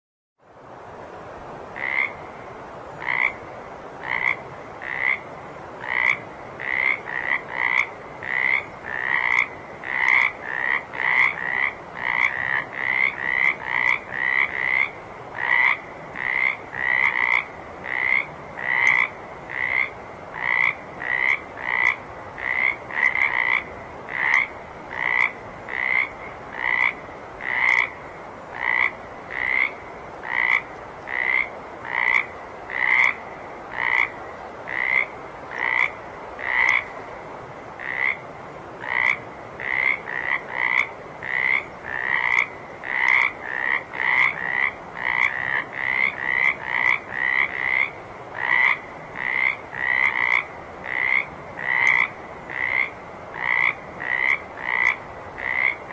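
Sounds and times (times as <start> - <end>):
soft background hiss: 0.4 - 55.9
frogs croaking: 1.6 - 55.9.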